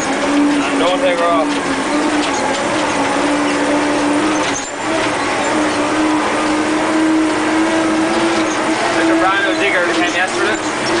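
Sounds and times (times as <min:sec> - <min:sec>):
diesel engine at full throttle: 0:00.0 - 0:11.0.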